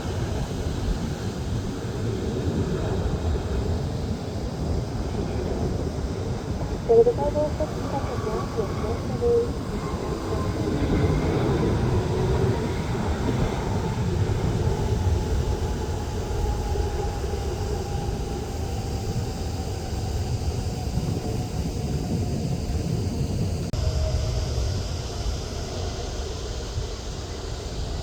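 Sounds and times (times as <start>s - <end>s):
faint engine whine: 0.0s - 28.0s
jet engines rumbling: 0.0s - 28.0s.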